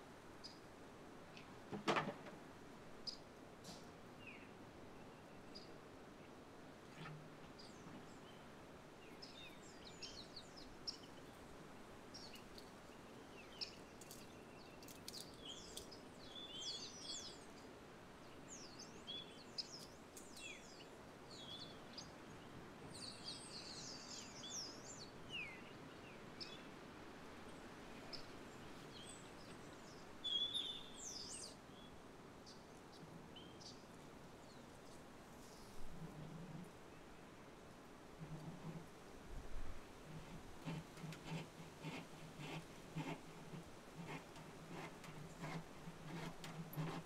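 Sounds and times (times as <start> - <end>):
faint outdoor background hum: 0.0 - 47.0
songbirds chirping: 0.1 - 39.2.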